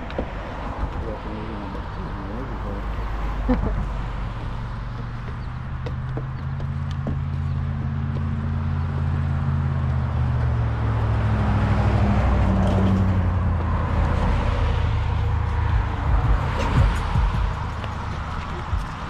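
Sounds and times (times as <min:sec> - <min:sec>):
pickup truck passing: 0:00.0 - 0:19.0
road traffic driving past: 0:00.0 - 0:19.0.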